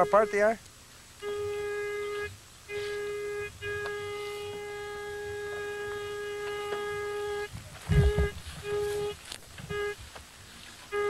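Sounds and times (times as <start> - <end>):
metal detector tone: 0.0 - 0.5, 1.2 - 10.0.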